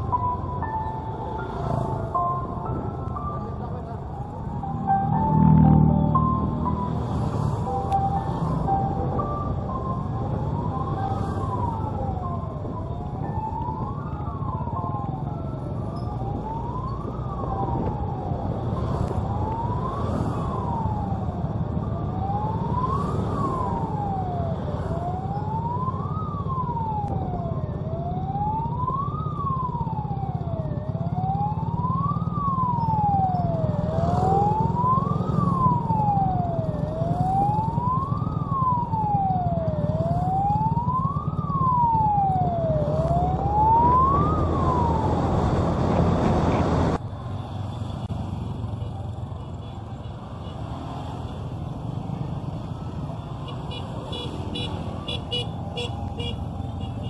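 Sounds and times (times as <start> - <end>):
road noise: 0.0 - 57.0
electronic wail siren: 3.5 - 47.0, 50.3 - 57.0.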